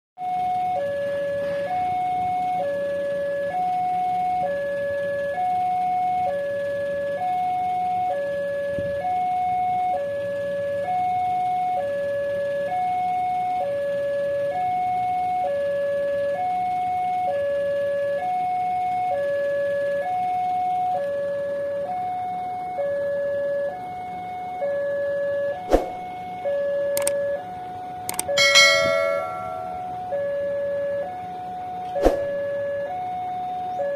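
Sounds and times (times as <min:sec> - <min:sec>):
level-crossing two-tone alarm: 0:00.2 - 0:33.9.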